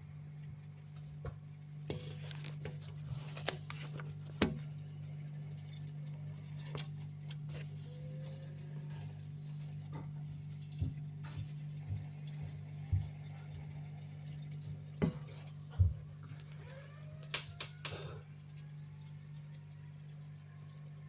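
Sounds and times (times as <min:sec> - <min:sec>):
refrigerator hum: 0:00.0 - 0:21.0.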